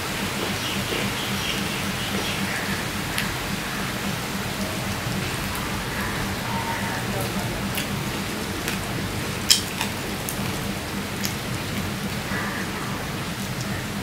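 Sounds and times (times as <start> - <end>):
steady rain hiss: 0.0 - 14.0
faint clicks: 0.1 - 14.0.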